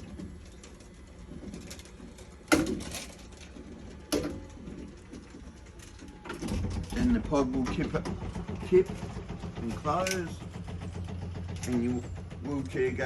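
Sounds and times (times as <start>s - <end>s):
electric hoist running: 0.0s - 13.0s.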